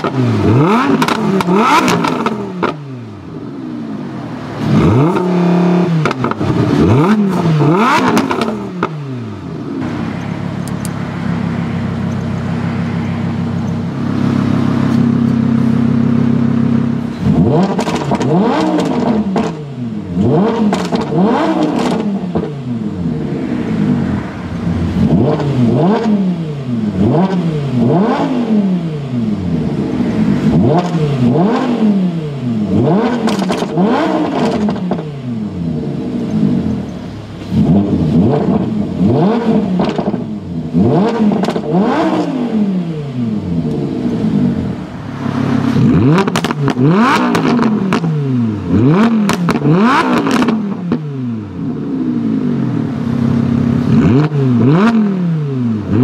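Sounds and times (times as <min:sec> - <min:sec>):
sports car engine revving: 0:00.0 - 0:56.0.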